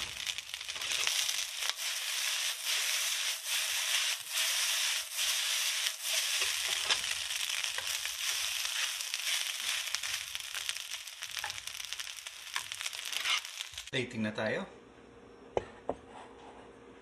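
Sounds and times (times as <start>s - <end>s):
rice sizzling in a wok: 0.0s - 13.9s
wooden spatula scraping wok: 0.0s - 13.9s.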